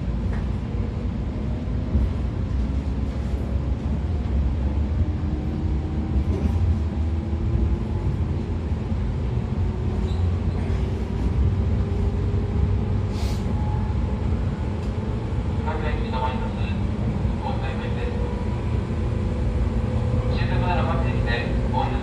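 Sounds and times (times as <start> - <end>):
train motors and gears whining: 0.0 - 22.0
wheels rumbling on rail: 0.0 - 22.0.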